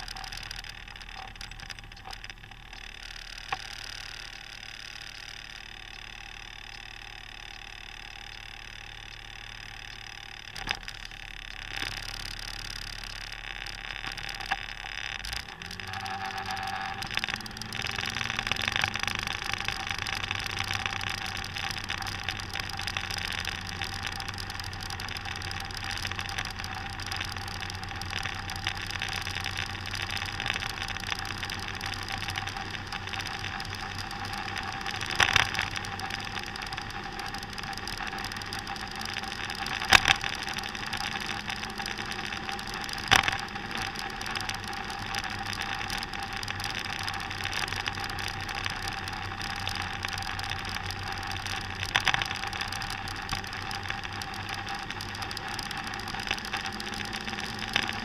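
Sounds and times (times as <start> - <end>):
road noise: 0.0 - 58.0
scooter engine running: 0.0 - 58.0.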